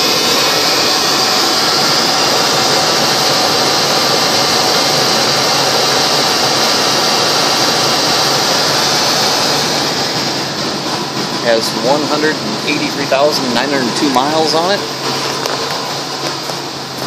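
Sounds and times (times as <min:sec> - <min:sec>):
engine running with hissing whir: 0:00.0 - 0:17.0.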